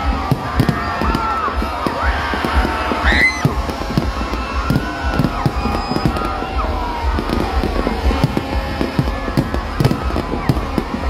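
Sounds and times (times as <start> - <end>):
crowd voices: 0.0 - 11.0
fireworks bursting: 0.0 - 11.0.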